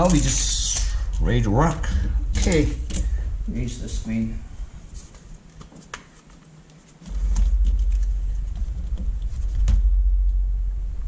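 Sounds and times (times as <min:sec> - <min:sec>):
steady low rumble: 0:00.0 - 0:05.8, 0:06.5 - 0:11.0.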